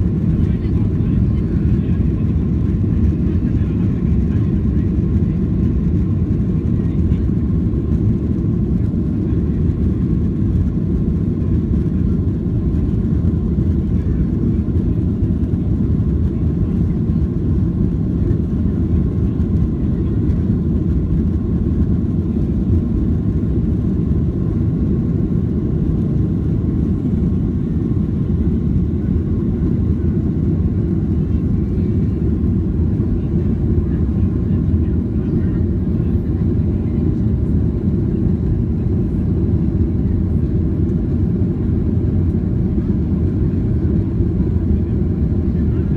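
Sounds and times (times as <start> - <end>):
jet engines roaring in cabin: 0.0 - 45.9.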